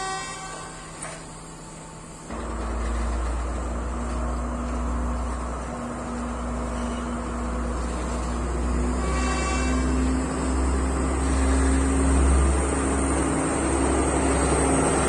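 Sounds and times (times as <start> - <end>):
train rumble and engine drone: 0.0 - 15.0.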